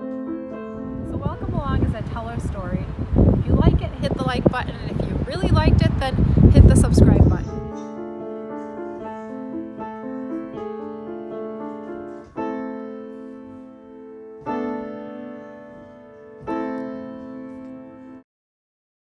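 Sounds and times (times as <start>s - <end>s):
piano music: 0.0s - 18.2s.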